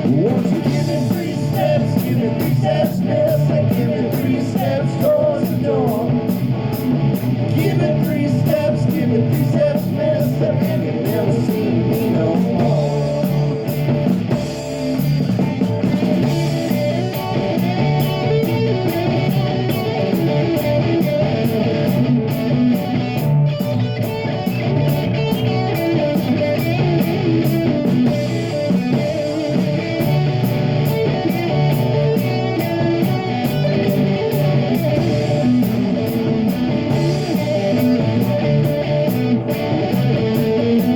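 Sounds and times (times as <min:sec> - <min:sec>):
drum kit with cymbal beat: 0:00.0 - 0:40.9
electric guitar: 0:00.0 - 0:40.9.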